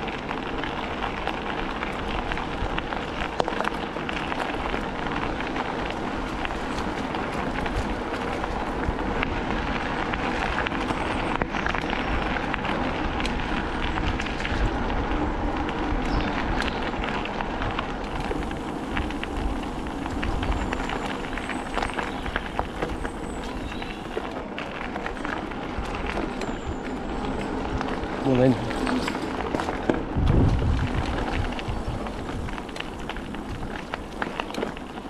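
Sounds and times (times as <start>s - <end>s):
bicycle tyres on loose gravel: 0.0s - 35.0s
crackles and rattles: 0.0s - 35.0s
wind rumble on microphone: 0.0s - 35.0s.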